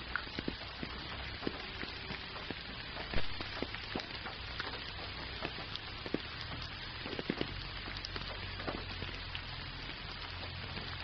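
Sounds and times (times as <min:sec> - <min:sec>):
gentle rain falling: 0:00.0 - 0:11.0
raindrops ticking close by: 0:00.0 - 0:11.0.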